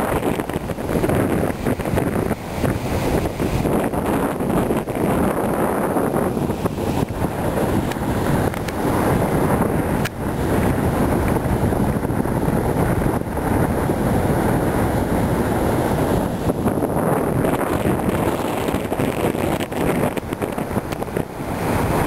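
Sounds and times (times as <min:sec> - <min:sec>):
heavy surf breaking on rocks: 0:00.0 - 0:22.0
wind buffeting microphone: 0:00.0 - 0:22.0.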